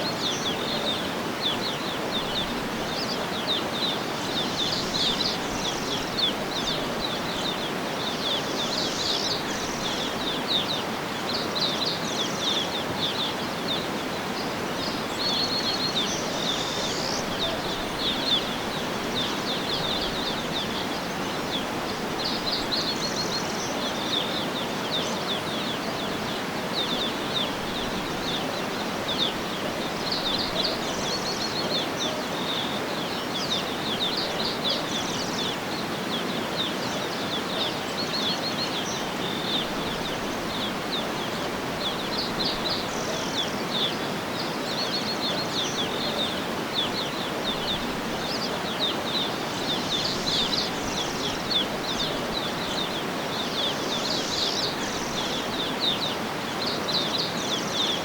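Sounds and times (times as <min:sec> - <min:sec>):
many birds chirping: 0:00.0 - 0:58.0
steady background hiss: 0:00.0 - 0:58.0.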